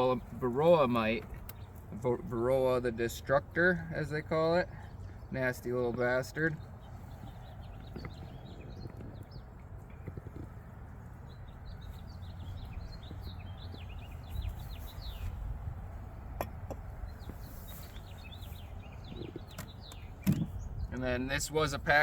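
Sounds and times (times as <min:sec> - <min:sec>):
small birds twittering: 0:00.0 - 0:22.0.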